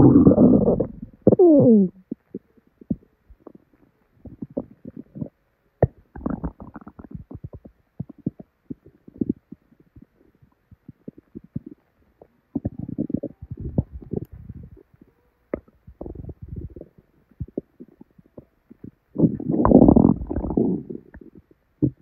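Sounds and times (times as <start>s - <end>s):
stomach gurgling: 0.0s - 22.0s.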